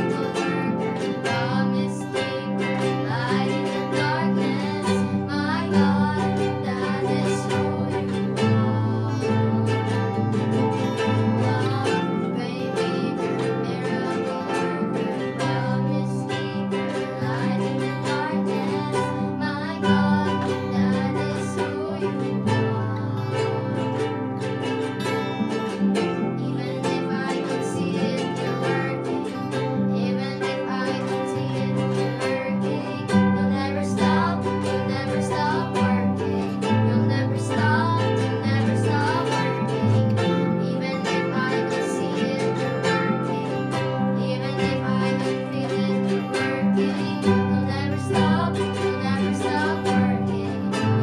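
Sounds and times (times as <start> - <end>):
plucked strings music: 0.0 - 51.0.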